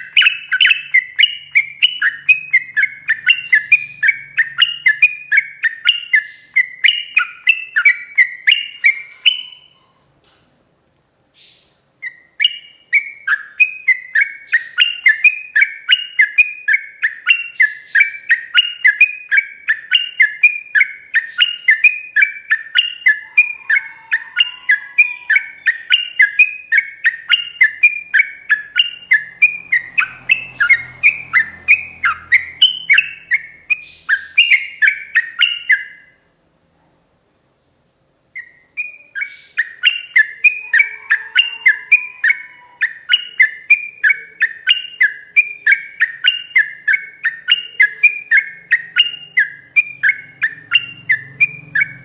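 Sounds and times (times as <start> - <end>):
bird chattering song: 0.0 - 10.0, 11.4 - 36.2, 38.4 - 52.0.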